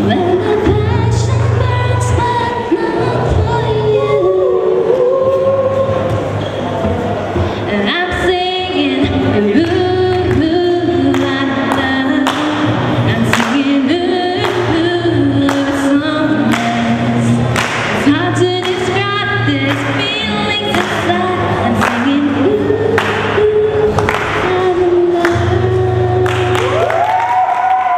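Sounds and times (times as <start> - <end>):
person singing: 0.0 - 6.4, 7.6 - 27.9.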